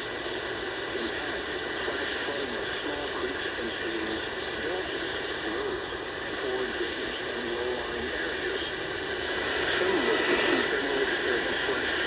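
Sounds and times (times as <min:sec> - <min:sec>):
radio static hiss and crackle: 0:00.0 - 0:12.0
steady high whine: 0:00.0 - 0:12.0.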